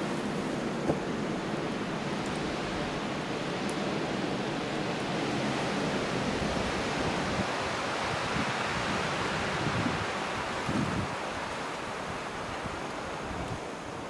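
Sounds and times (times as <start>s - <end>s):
rushing wind: 0.0s - 14.0s
wind gusts buffeting microphone: 0.0s - 14.0s.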